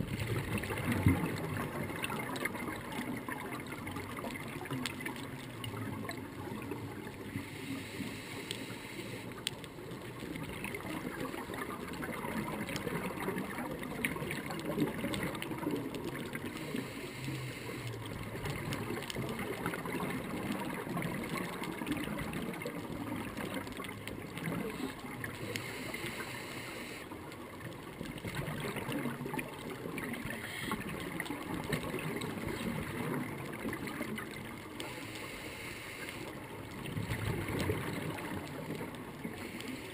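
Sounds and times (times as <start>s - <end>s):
regulator bubbles gurgling: 0.0s - 39.9s.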